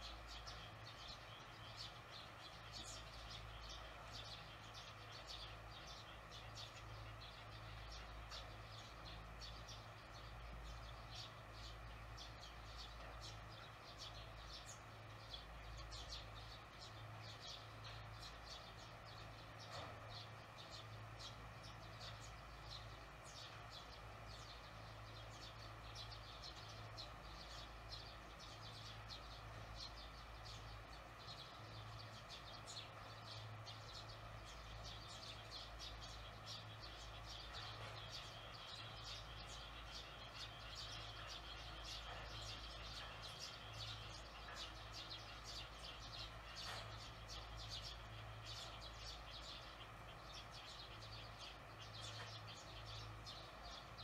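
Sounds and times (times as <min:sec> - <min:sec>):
swallows twittering: 0:00.0 - 0:54.0.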